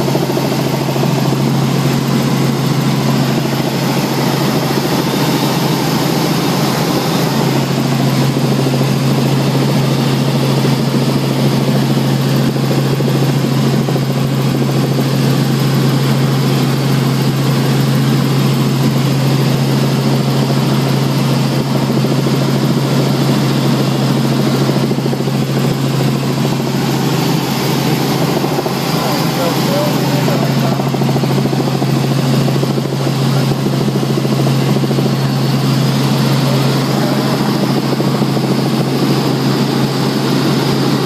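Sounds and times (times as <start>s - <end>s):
helicopter cabin rotor hum: 0.0s - 41.0s.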